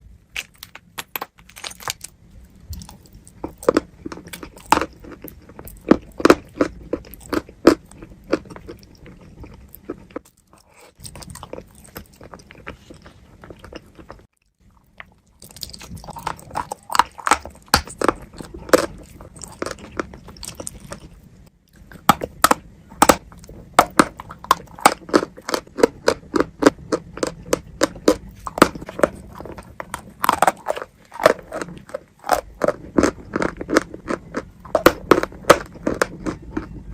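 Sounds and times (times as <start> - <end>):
crunchy chewing: 1.6 - 36.9.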